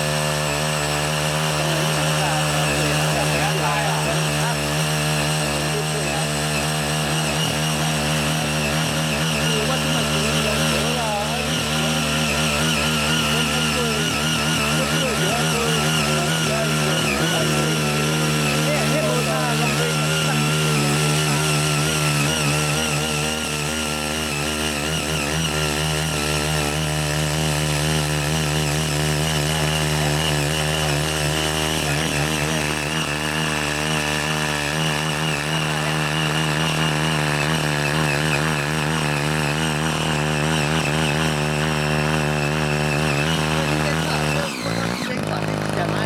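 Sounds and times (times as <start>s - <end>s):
cultivator engine running: 0.0s - 46.0s
rotary tines tilling soil: 0.0s - 46.0s.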